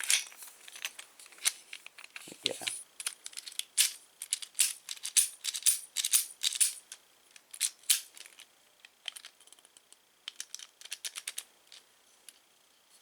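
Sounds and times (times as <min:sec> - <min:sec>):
small metal parts clicking: 0:00.0 - 0:12.4.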